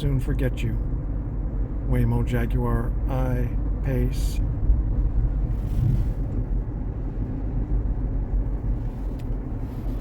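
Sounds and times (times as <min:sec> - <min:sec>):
road rumble inside car: 0:00.0 - 0:10.0.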